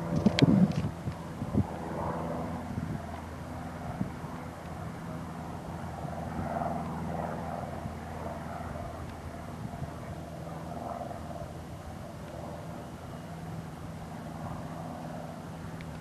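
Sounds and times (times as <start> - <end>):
distant propeller plane droning: 0.0 - 16.0.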